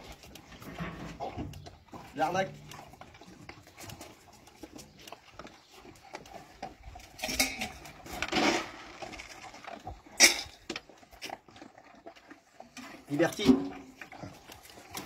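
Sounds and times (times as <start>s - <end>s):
dogs crunching food: 0.0s - 15.0s.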